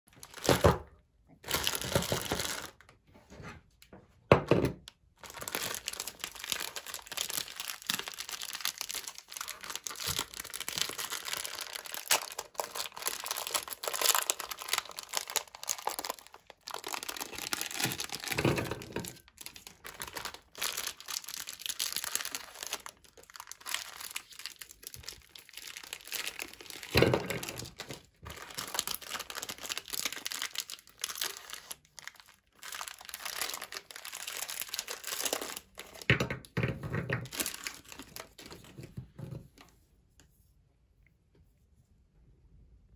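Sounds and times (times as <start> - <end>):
plastic wrappers crinkling and tearing: 0.1 - 2.9, 5.1 - 36.2, 37.0 - 39.0.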